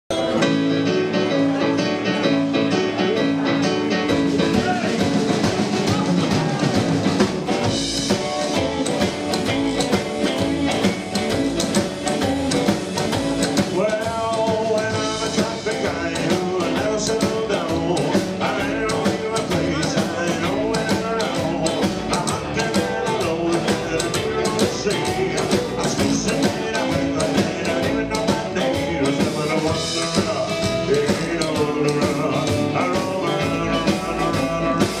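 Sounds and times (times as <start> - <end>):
rock and roll band playing: 0.1 - 35.0.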